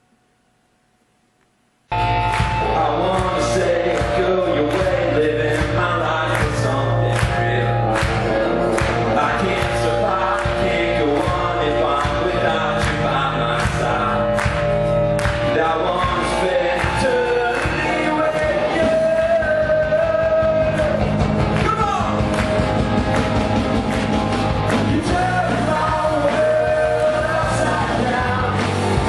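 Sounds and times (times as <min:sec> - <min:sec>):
worship band playing rock song: 0:01.9 - 0:29.0.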